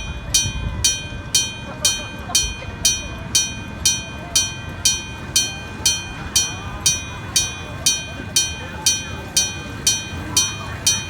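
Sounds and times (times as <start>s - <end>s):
level crossing bell ringing: 0.0s - 11.0s.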